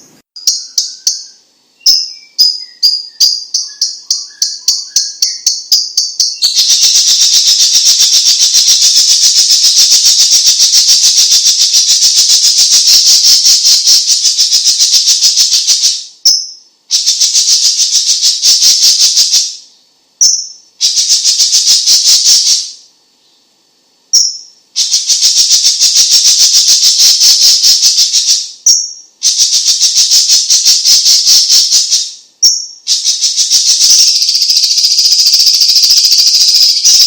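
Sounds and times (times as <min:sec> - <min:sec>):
bird rattling trill call: 0:00.4 - 0:19.5, 0:20.2 - 0:22.7, 0:24.2 - 0:37.0.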